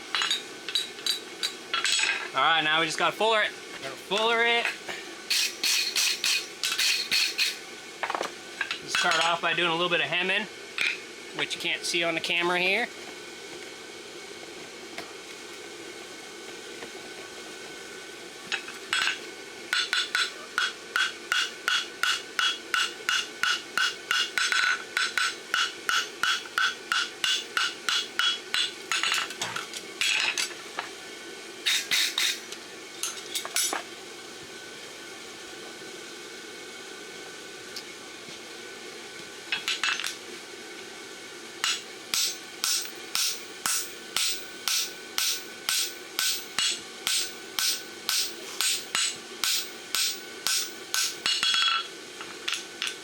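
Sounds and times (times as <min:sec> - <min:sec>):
low background hum: 0:00.0 - 0:53.0.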